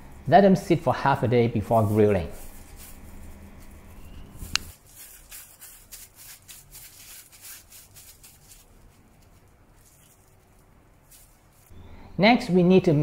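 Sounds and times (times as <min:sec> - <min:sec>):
plastic gloves rustling: 0:00.0 - 0:11.9.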